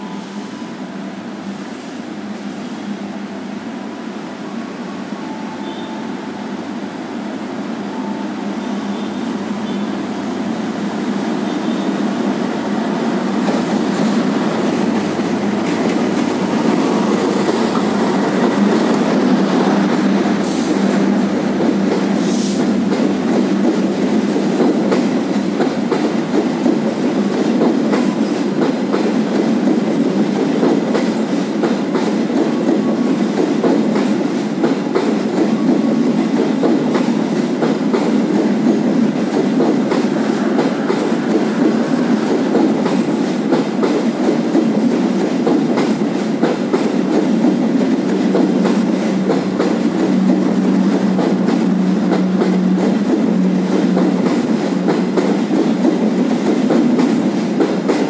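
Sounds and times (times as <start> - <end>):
train carriages rumbling past: 0.0 - 58.0.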